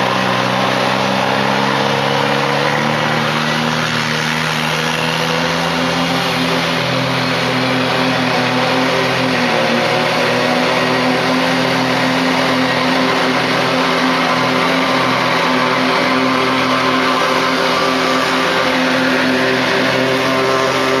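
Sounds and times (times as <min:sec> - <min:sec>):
ride-on mower engine drone: 0:00.0 - 0:21.0.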